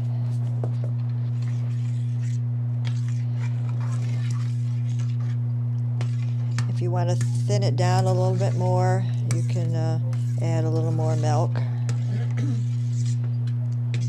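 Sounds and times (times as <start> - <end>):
low electrical hum: 0.0 - 14.0
spoon scraping a steel pot: 1.4 - 5.4, 6.0 - 13.3.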